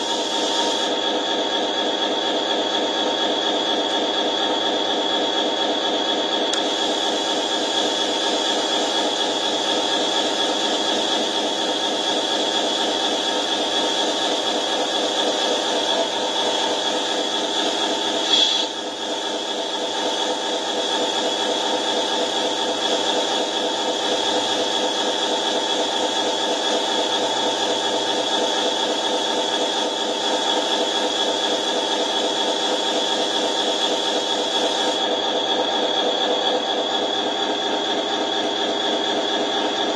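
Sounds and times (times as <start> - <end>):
pulsing mechanical hum: 0.0 - 39.9.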